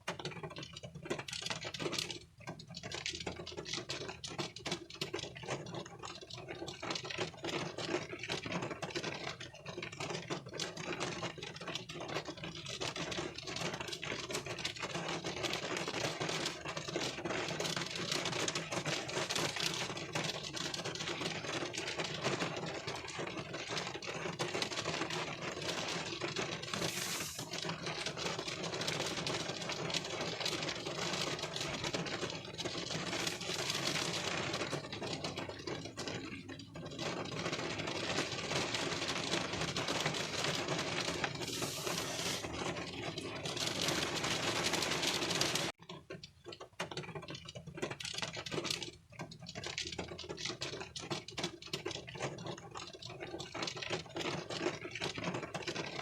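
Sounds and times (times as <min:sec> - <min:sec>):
rain on car windscreen and roof: 0:00.0 - 0:45.8, 0:46.5 - 0:56.0.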